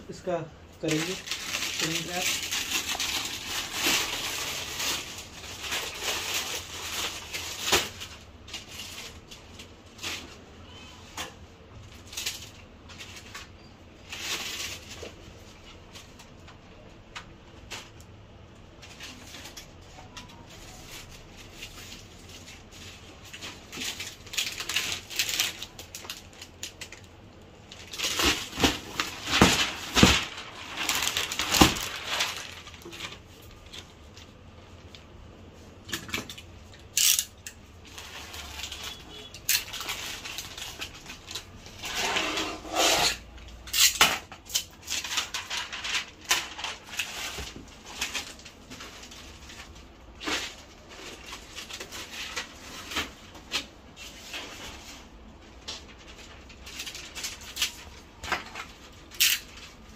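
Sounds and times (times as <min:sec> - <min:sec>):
plastic film crinkling: 0:00.1 - 0:59.9.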